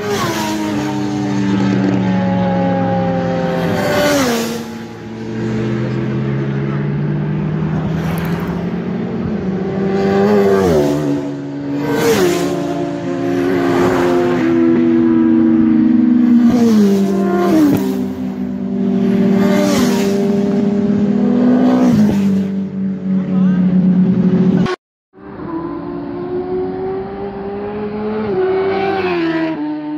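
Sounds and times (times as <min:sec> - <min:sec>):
motorcycle engine accelerating: 0:00.0 - 0:29.9.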